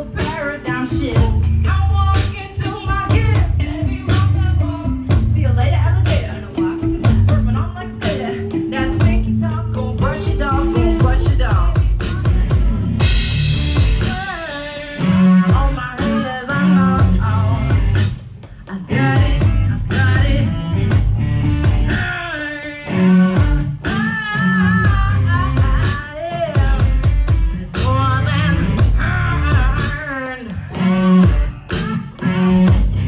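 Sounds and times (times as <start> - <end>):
lead singer singing: 0.0 - 33.0
live band playing: 0.0 - 33.0.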